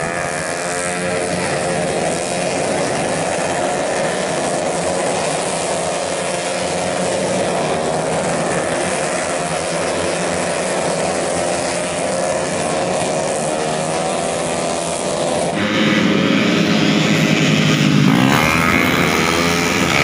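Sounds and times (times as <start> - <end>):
scooter engines running: 0.0 - 20.0.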